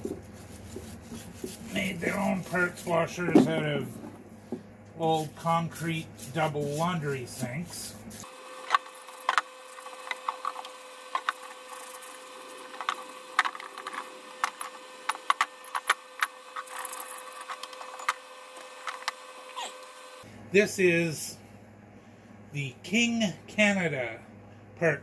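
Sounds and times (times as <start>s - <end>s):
parts washer pump humming: 0.0s - 20.7s.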